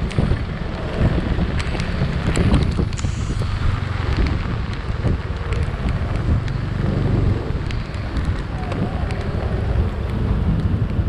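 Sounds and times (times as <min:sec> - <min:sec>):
road noise: 0:00.0 - 0:11.0
scooter engine rumble: 0:00.0 - 0:11.0
wind buffeting microphone: 0:00.0 - 0:11.0.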